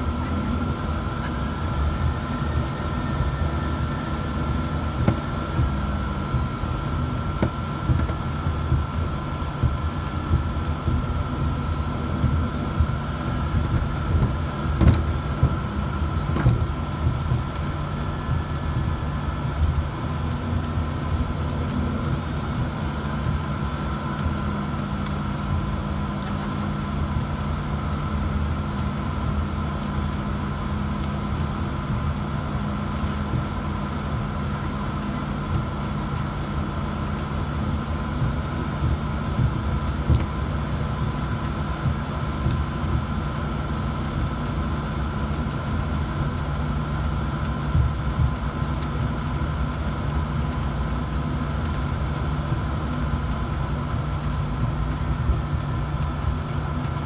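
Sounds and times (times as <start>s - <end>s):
jet engine whine: 0.0s - 57.0s
low cabin rumble: 0.0s - 57.0s.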